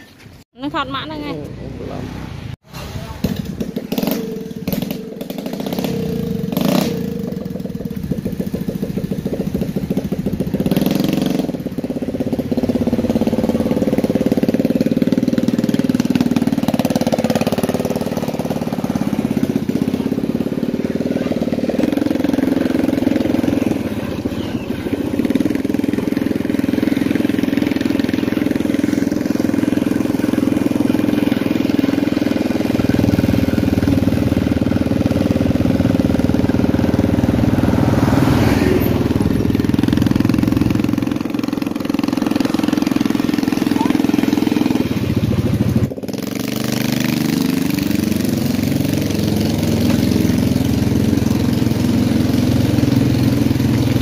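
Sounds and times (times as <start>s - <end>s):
small motorcycle engine running: 2.8s - 54.0s.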